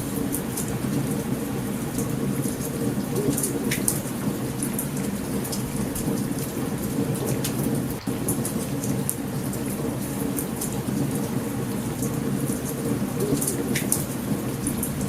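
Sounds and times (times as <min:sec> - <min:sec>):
heavy rain: 0:00.0 - 0:15.0
low rumble of thunder: 0:00.0 - 0:15.0.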